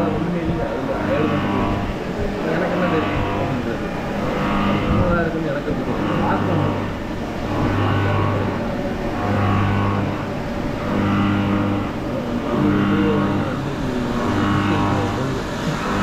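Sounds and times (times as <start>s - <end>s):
milling machine cutting metal: 0.0s - 16.0s.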